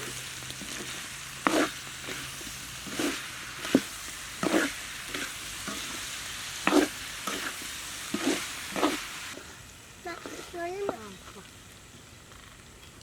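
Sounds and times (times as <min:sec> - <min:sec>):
utensil scraping a pan: 0:00.0 - 0:11.0
curry hissing in a pan: 0:00.0 - 0:13.0.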